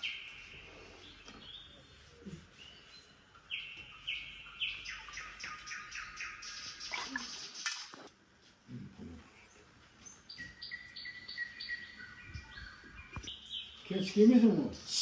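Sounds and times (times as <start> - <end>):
small birds chirping: 0.0 - 8.1, 9.0 - 15.0.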